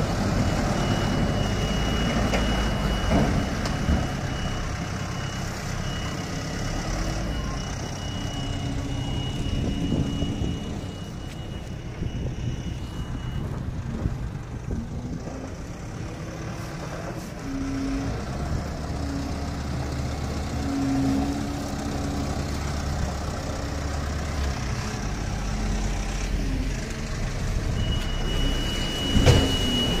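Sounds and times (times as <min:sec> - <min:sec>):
vehicle engines droning: 0:00.0 - 0:30.0.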